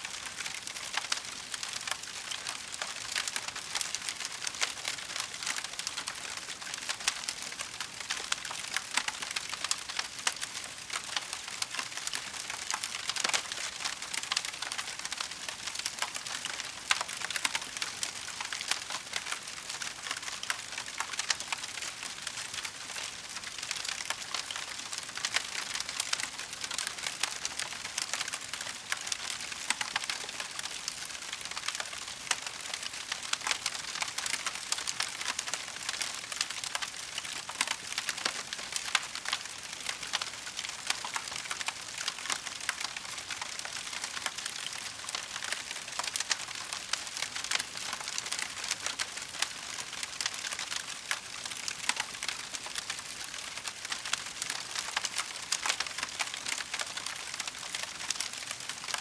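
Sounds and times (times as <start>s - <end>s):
wood fire crackling: 8.1s - 51.2s, 51.8s - 59.0s.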